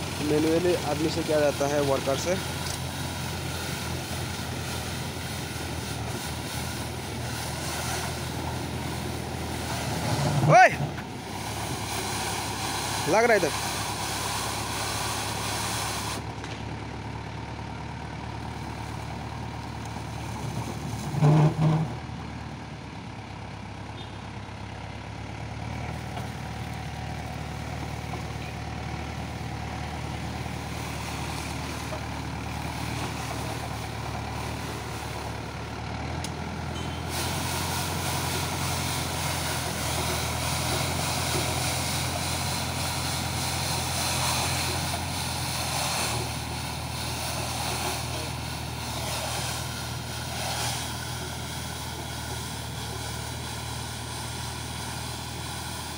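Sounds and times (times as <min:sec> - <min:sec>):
sweeper brush scrubbing asphalt: 0:00.0 - 0:16.3, 0:25.9 - 0:55.9
diesel tractor engine running: 0:00.0 - 0:55.9.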